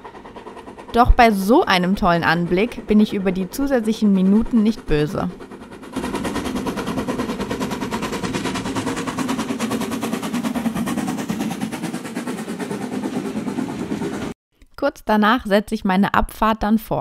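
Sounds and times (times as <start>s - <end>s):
rumble of running train: 0.0s - 14.4s
steam locomotive chuffing: 0.0s - 14.4s.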